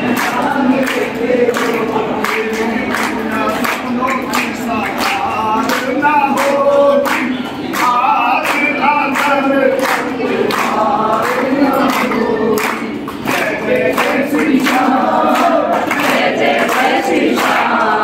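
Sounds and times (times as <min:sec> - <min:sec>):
man leading singing: 0:00.0 - 0:16.3
group singing devotional song: 0:00.0 - 0:18.0
people clapping: 0:00.0 - 0:18.0.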